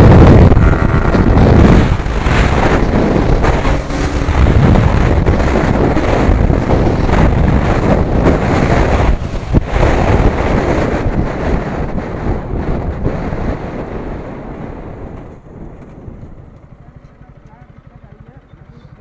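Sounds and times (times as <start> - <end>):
motorcycle engine: 0.0 - 19.0
wind buffeting microphone: 0.0 - 19.0.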